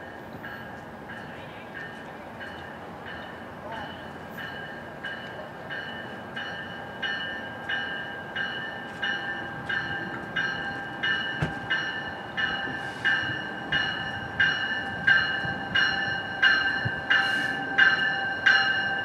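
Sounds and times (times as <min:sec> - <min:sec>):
train low rumble: 0:00.0 - 0:19.0
train warning bell ringing: 0:00.0 - 0:19.0.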